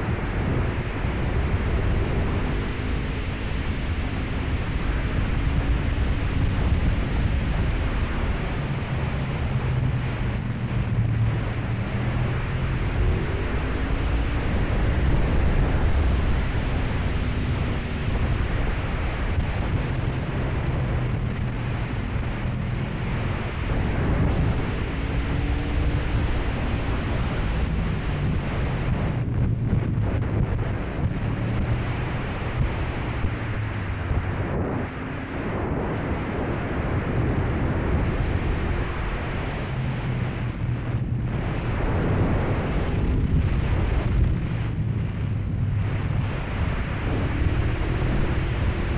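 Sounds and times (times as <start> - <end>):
wind buffeting microphone: 2.7 - 48.9.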